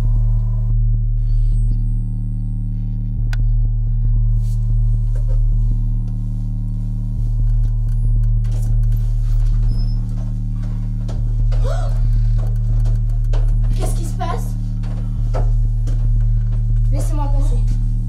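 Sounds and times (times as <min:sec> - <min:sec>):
low drone music: 0:00.0 - 0:18.0.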